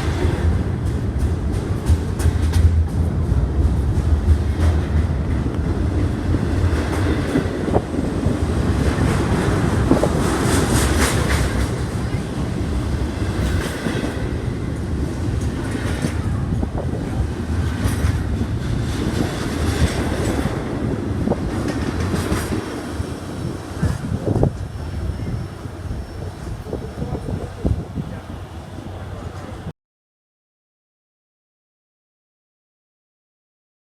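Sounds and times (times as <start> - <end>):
train wheels rumbling on rail: 0.0 - 29.7.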